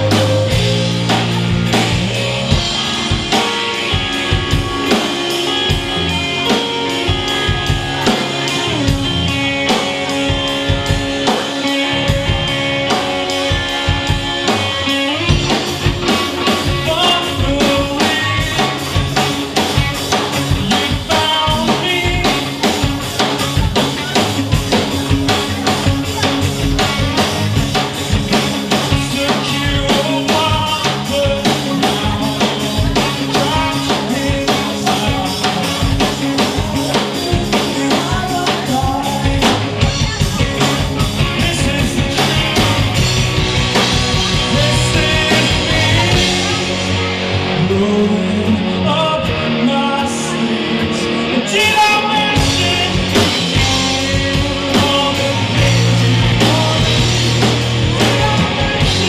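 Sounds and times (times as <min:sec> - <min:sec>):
bass guitar: 0:00.0 - 0:59.0
drum kit: 0:00.0 - 0:59.0
electric guitars: 0:00.0 - 0:59.0
man singing lead: 0:00.0 - 0:59.0.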